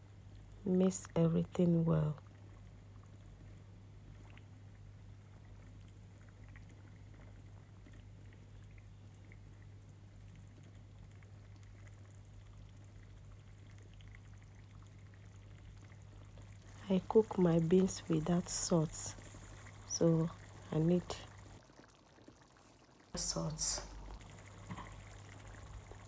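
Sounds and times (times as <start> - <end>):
steady low hum: 0.0 - 21.6, 23.1 - 26.0
stew crackling in a pot: 2.2 - 26.0.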